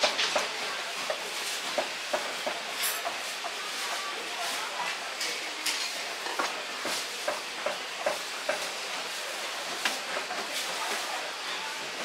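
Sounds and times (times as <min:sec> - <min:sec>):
market background hiss: 0:00.0 - 0:12.0.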